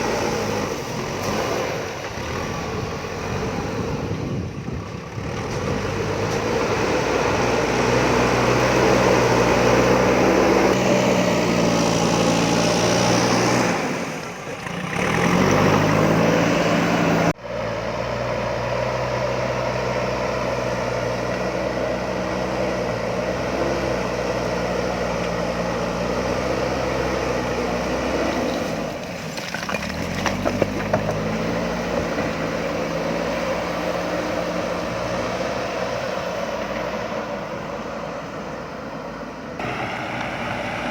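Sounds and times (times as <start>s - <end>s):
diesel engine revving: 0.0s - 29.2s, 29.8s - 40.9s.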